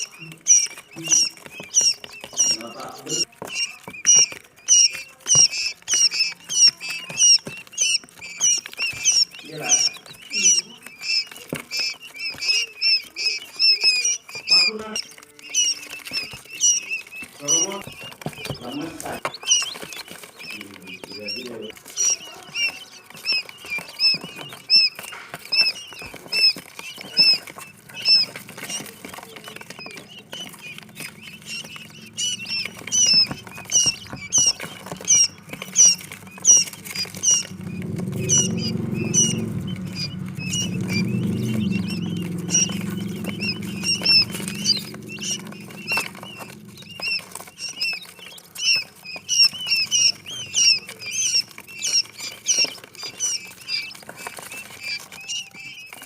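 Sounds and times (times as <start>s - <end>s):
quail chicks peeping: 0.0s - 56.0s.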